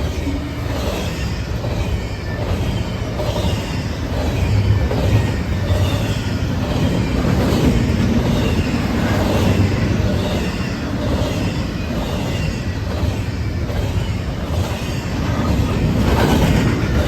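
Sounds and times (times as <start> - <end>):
faint high wheel squeals: 0.0 - 16.4
railroad cars rumbling past: 0.0 - 17.0.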